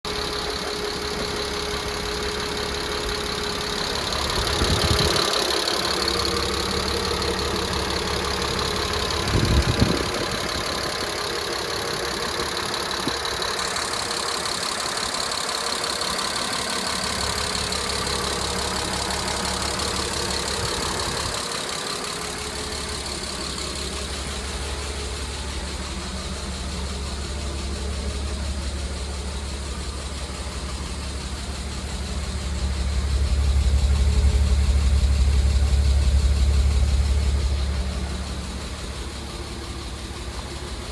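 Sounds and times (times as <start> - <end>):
car engine running: 0.0 - 40.9
engine ticking: 0.0 - 40.9.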